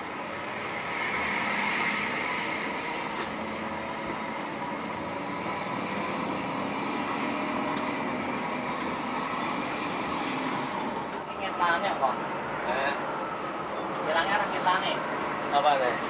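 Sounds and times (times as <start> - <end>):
bus engine: 0.0 - 16.0
road noise: 0.0 - 16.0.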